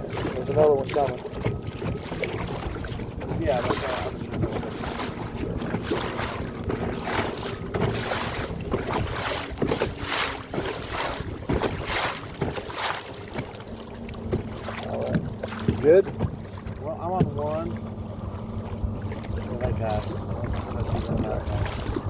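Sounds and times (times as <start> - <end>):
waves splashing against boat hull: 0.0 - 22.0
wind buffeting microphone: 0.0 - 22.0.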